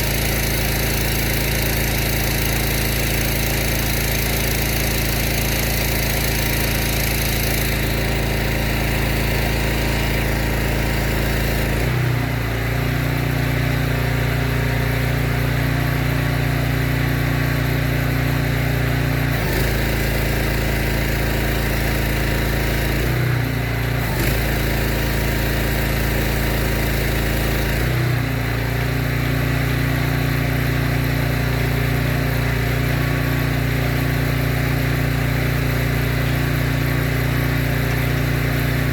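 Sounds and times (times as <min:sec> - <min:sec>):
pressure washer petrol engine: 0:00.0 - 0:38.9.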